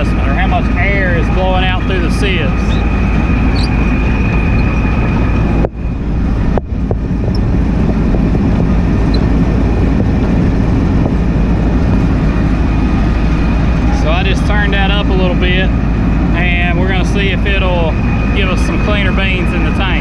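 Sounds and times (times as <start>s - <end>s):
combine harvester machinery drone: 0.0s - 20.0s
faint steady whine: 0.0s - 20.0s.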